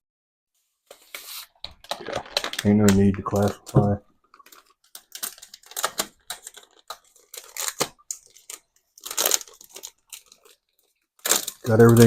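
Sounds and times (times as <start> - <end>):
rustling and crinkling handling noise: 0.8 - 12.0.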